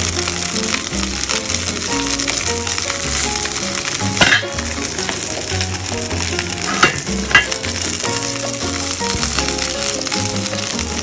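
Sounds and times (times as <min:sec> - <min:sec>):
background music: 0:00.0 - 0:11.0
fish sizzling in a skillet: 0:00.0 - 0:11.0.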